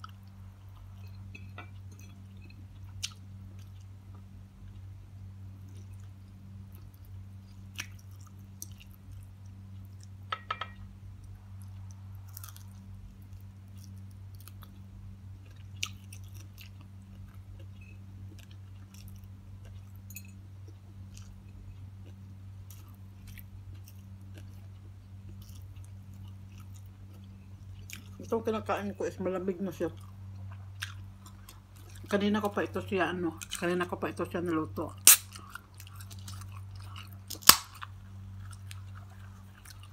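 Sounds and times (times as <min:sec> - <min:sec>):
chewing and mouth sounds: 0:00.0 - 0:04.9, 0:05.6 - 0:10.2, 0:11.3 - 0:28.3, 0:29.9 - 0:32.3, 0:35.0 - 0:39.9
steady low hum: 0:00.0 - 0:39.9.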